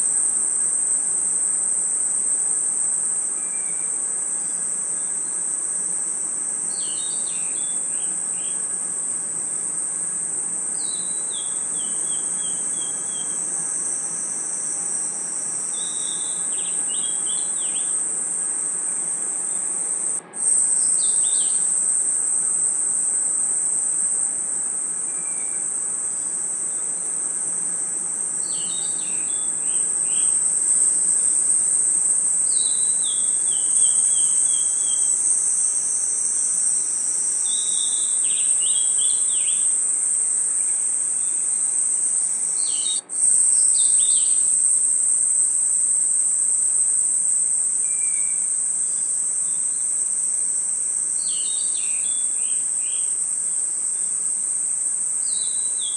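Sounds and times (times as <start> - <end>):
crickets trilling: 0.0 - 55.9
insect chirps: 0.0 - 55.9.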